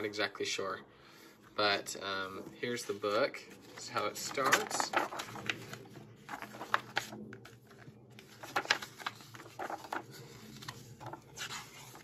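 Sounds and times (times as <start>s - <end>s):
thick paper pages rustling: 2.2s - 12.0s.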